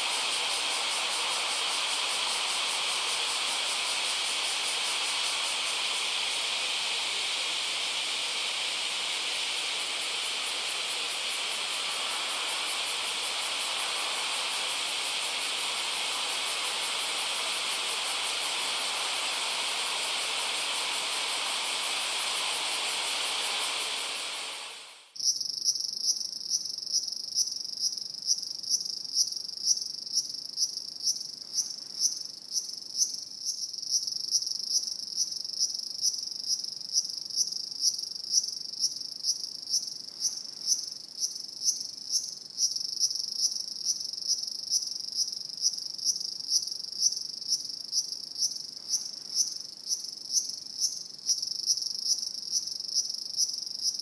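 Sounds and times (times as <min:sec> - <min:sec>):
crickets chirping: 0:00.0 - 0:54.0
steady hiss: 0:00.0 - 0:54.0.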